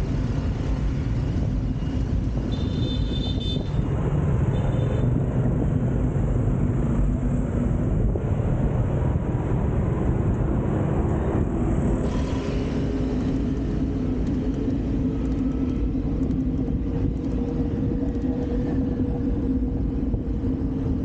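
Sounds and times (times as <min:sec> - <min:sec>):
city street traffic: 0:00.0 - 0:21.0
heavy low rumble: 0:03.7 - 0:21.0.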